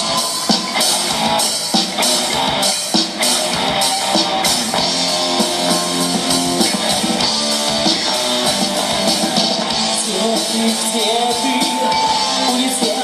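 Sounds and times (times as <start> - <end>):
drum kit beat: 0.0 - 13.0
electric guitar playing: 0.0 - 13.0.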